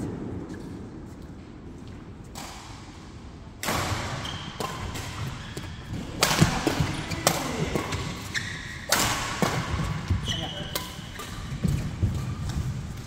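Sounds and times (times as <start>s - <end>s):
racket hitting shuttlecock: 2.3s - 13.0s.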